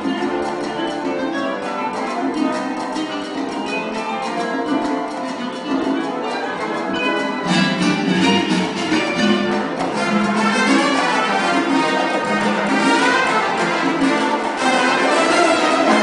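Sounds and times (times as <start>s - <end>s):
classical guitar: 0.0s - 16.0s
symphony orchestra playing: 0.0s - 16.0s.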